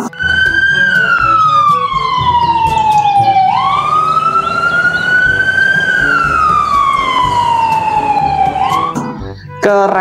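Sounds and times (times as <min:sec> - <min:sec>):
ambulance siren wailing: 0:00.0 - 0:09.2
faint background music: 0:00.0 - 0:10.0.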